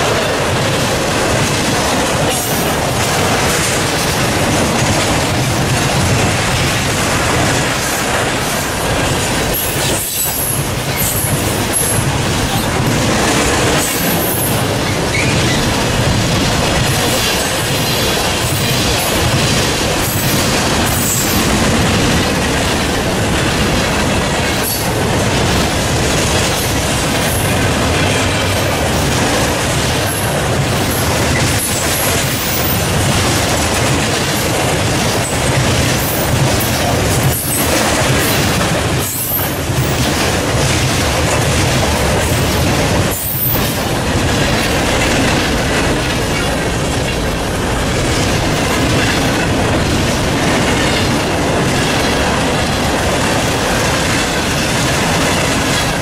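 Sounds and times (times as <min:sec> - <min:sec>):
train wheels rumbling on rail: 0:00.0 - 0:56.0
wheels clacking over rail joints: 0:00.0 - 0:56.0.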